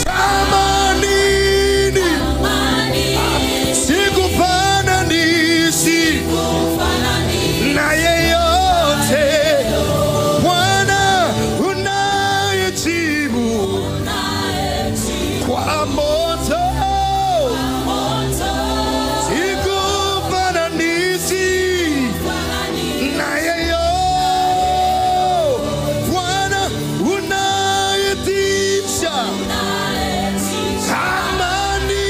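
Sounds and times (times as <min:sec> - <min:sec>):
man singing with vibrato: 0:00.0 - 0:14.1, 0:14.8 - 0:18.0, 0:19.2 - 0:32.0
bass guitar: 0:00.0 - 0:32.0
choir singing: 0:00.0 - 0:32.0.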